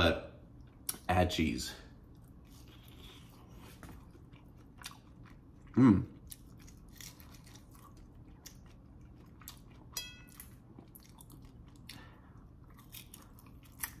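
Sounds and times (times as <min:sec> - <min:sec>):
crunchy chewing: 0:02.1 - 0:14.0.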